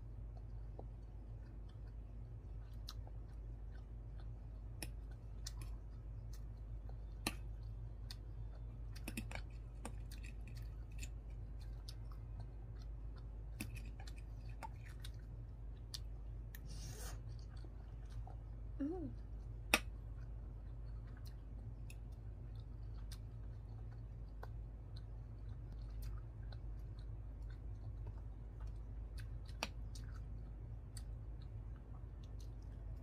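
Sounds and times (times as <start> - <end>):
chewing noodles: 0.0 - 33.0
low steady hum: 0.0 - 33.0.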